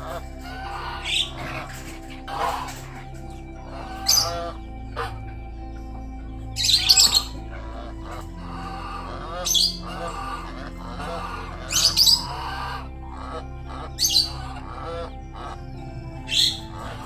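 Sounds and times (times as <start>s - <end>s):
background music with held chords: 0.0s - 17.0s
geese squawking: 0.0s - 17.0s.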